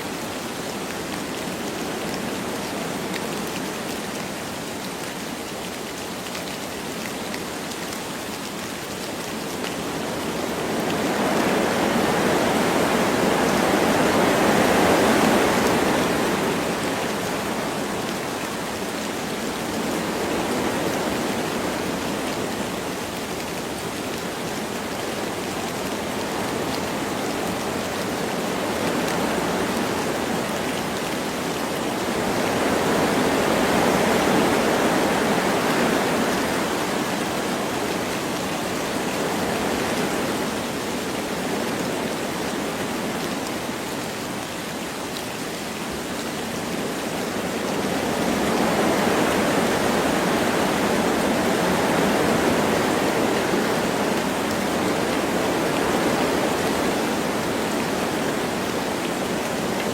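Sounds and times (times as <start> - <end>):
light rain: 0.0 - 59.9
wind through forest trees: 0.0 - 59.9.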